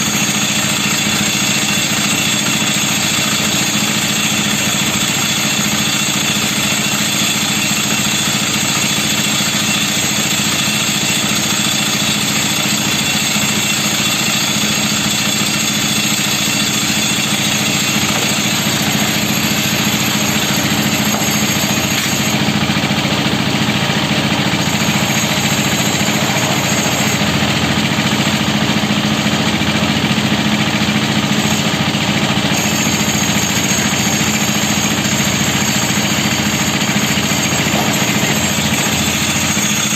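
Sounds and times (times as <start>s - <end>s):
cement mixer engine running: 0.0s - 39.9s.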